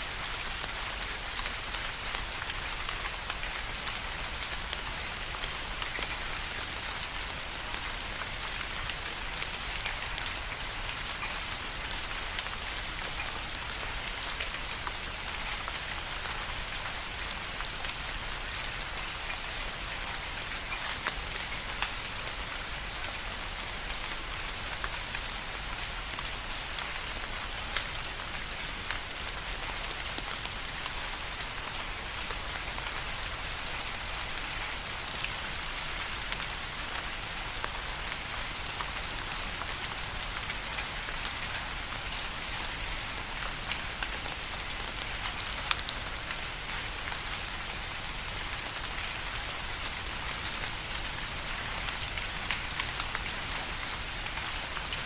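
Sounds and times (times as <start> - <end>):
rain drops on hard surface: 0.0 - 55.0.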